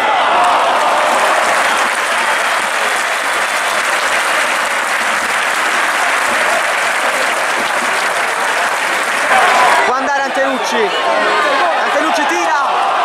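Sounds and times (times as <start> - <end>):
stadium crowd applauding: 0.0 - 10.7.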